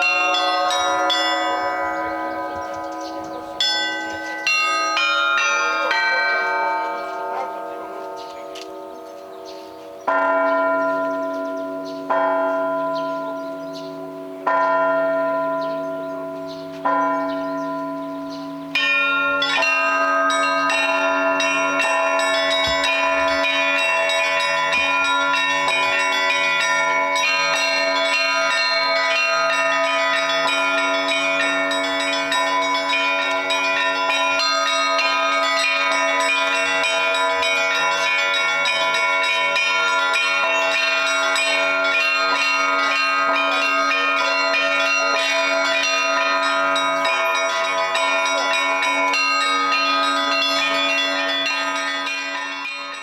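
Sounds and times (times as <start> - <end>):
large bell struck slowly: 0.0 - 53.0
peal of many bells: 0.0 - 53.0.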